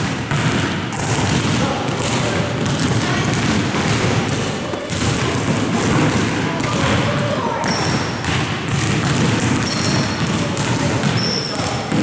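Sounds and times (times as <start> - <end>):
basketballs bouncing on wooden floor: 0.0 - 12.0.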